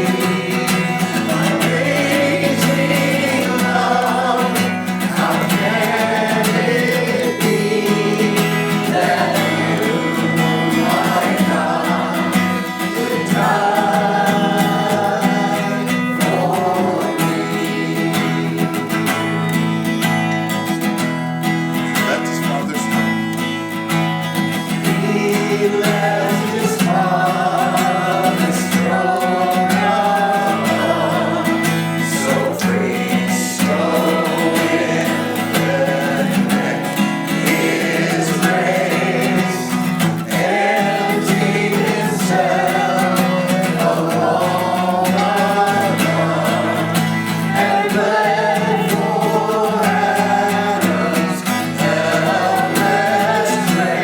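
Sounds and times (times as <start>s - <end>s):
group singing a hymn: 0.0s - 54.0s
strummed acoustic guitar: 0.0s - 54.0s.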